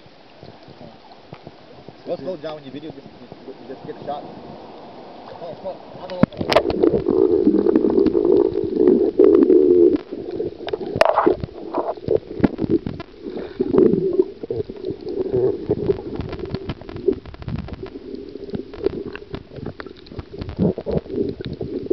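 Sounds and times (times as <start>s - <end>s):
underwater gurgling rush of water: 0.0s - 21.9s.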